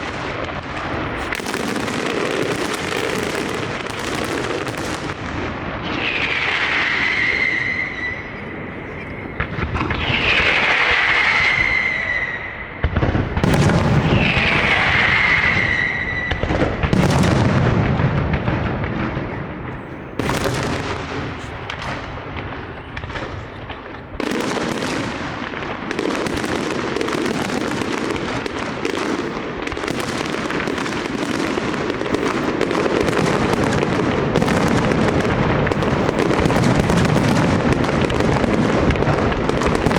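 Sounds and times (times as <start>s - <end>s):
deep firework booms: 0.0s - 39.9s
rapid firework cracks and bangs: 0.0s - 39.9s
whistling firework shells: 0.0s - 39.9s.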